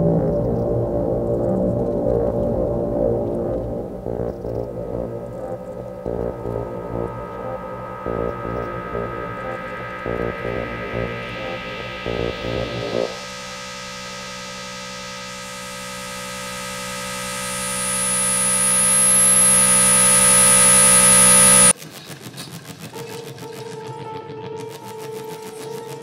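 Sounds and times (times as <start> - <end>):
held mid-pitched tone: 0.0 - 21.7
electronic hum-like drone: 0.0 - 21.8.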